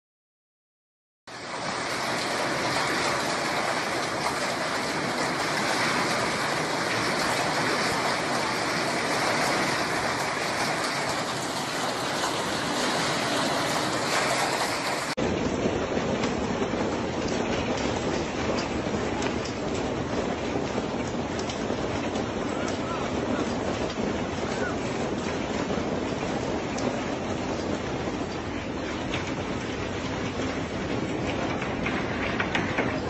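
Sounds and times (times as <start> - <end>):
hail and rain pelting ground: 1.3 - 33.0.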